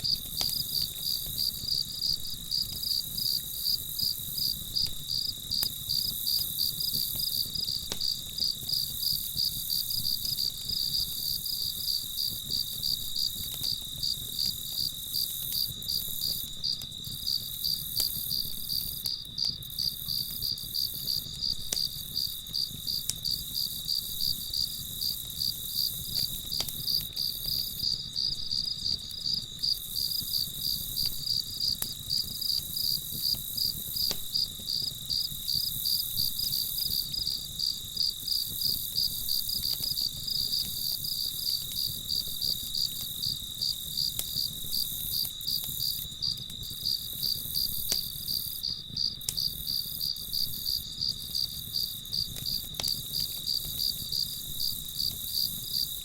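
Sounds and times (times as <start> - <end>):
campfire pops and rumble: 0.0 - 56.0
crickets chirping: 0.0 - 56.0.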